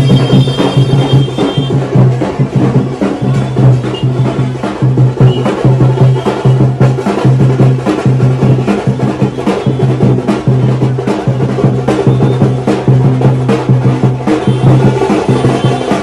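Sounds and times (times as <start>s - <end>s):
quick sharp drum strokes: 0.0s - 16.0s.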